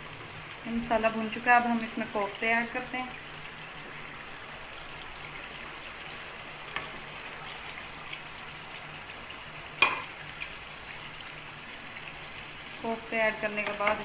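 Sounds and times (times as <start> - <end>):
sauce sizzling in oil: 0.0 - 14.0.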